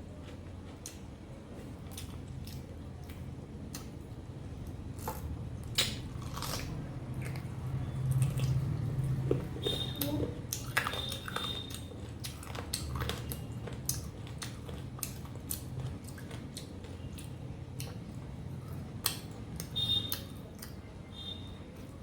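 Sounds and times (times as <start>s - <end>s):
chewing with smacking mouth clicks: 0.1s - 1.1s, 1.8s - 4.0s, 4.7s - 20.8s.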